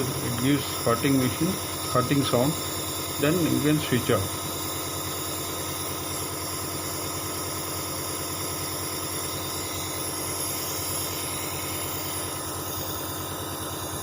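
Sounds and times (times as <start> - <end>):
compressor humming: 0.0 - 14.0.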